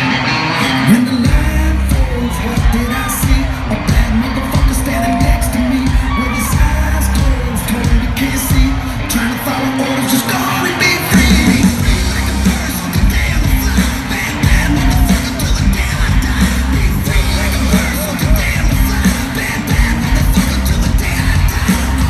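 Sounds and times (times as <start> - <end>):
live rock music over loudspeakers: 0.0 - 22.0
person singing: 0.0 - 22.0.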